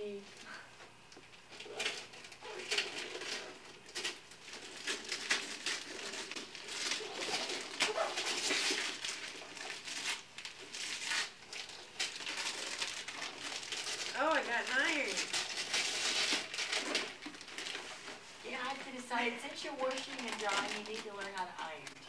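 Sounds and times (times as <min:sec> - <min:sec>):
wrapping paper tearing and crumpling: 0:01.5 - 0:22.0.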